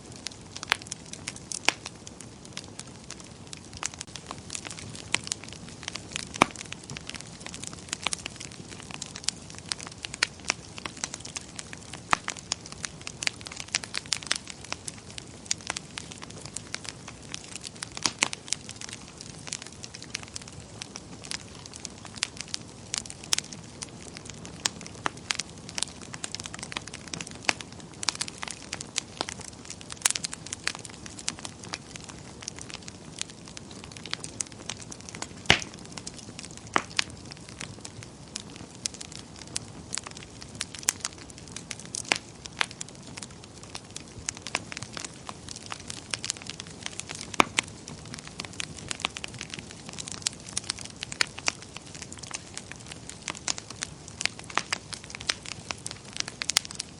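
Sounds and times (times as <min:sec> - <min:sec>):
wood fire burning: 0:00.0 - 0:56.9.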